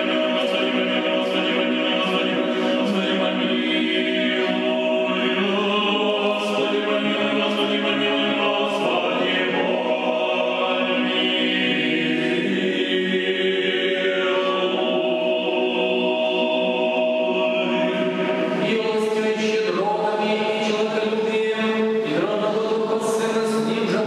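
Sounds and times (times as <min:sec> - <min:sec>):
church choir chanting: 0:00.0 - 0:24.0.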